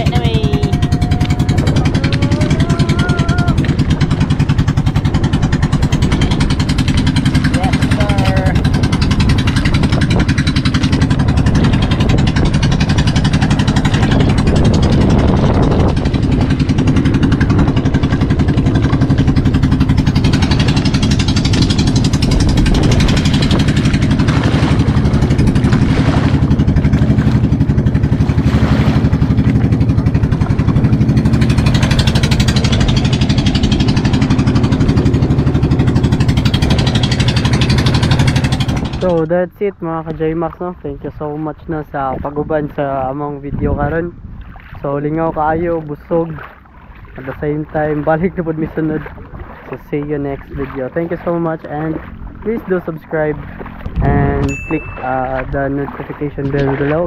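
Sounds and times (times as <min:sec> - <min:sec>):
boat engine running: 0:00.0 - 0:57.0
water splashing against hull: 0:00.0 - 0:57.0.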